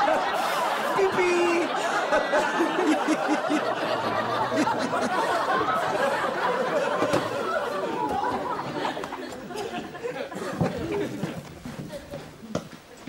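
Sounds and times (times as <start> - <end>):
audience laughing: 0.0 - 12.2.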